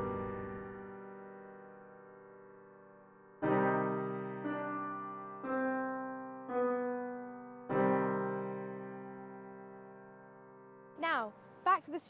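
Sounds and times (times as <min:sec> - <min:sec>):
slow piano chords: 0:00.0 - 0:11.7.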